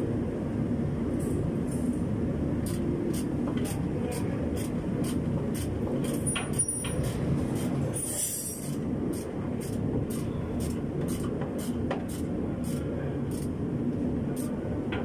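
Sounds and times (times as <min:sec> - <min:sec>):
low workshop rumble: 0:00.0 - 0:15.0.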